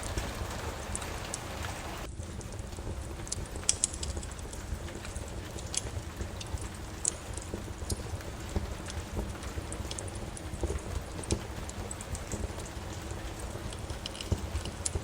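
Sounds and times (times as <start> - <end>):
rain hissing: 0.0 - 15.0
wood fire crackling: 0.0 - 15.0.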